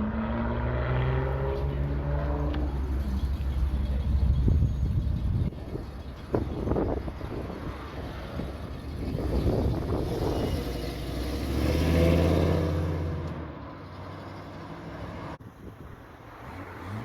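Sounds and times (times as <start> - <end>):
car engine accelerating: 0.0 - 15.4
other engine noise: 0.0 - 17.0.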